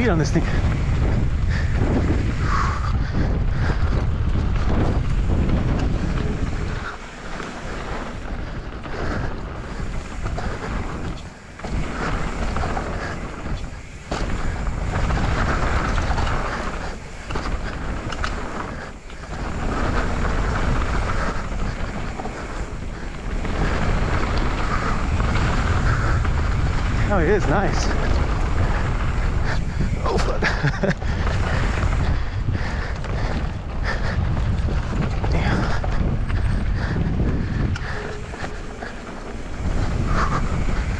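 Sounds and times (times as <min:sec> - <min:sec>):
bike tyres rolling on dirt: 0:00.0 - 0:40.9
wind on microphone: 0:00.0 - 0:40.9.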